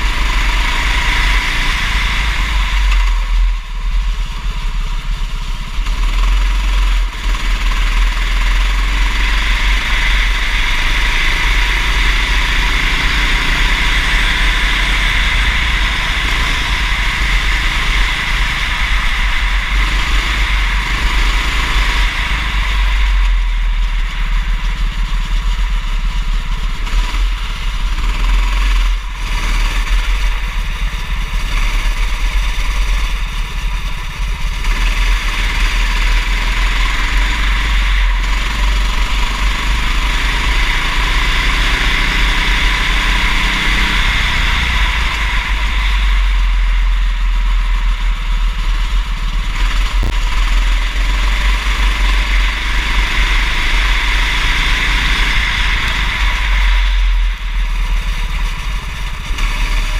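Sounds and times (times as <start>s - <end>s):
heavy low rumble: 0.0s - 59.9s
kart engine revving: 0.0s - 59.9s.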